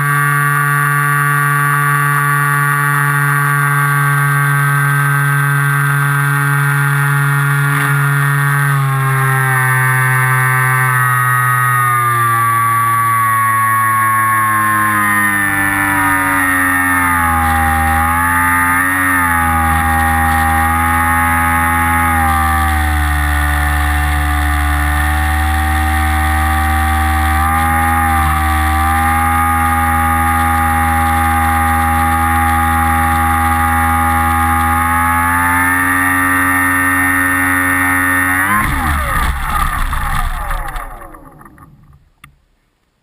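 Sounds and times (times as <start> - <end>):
model aircraft motor droning: 0.0 - 42.4.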